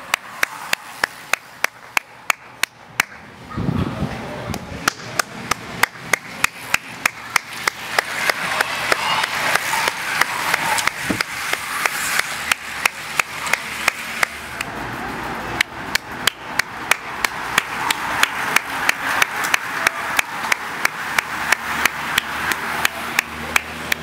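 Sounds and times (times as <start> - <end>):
bicycles passing by: 0.0 - 24.0.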